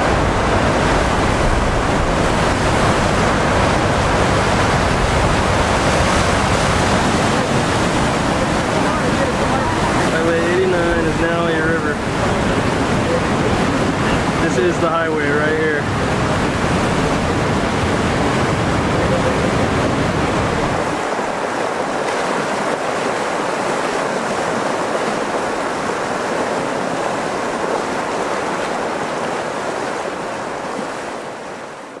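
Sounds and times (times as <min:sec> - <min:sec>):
floodwater rushing and churning: 0:00.0 - 0:32.0.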